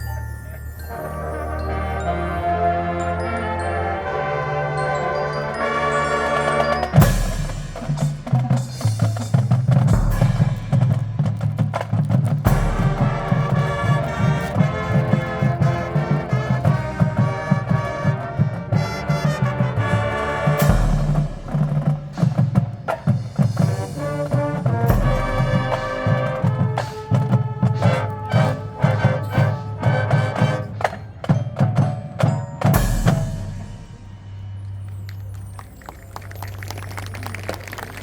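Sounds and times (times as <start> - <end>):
marching band playing: 0.4 - 38.0.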